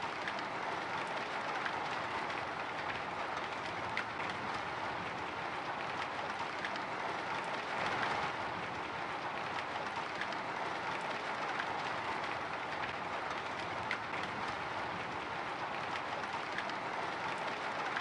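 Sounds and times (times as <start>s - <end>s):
hiss of rain: 0.0s - 18.0s
raindrops ticking on glass: 0.0s - 18.0s.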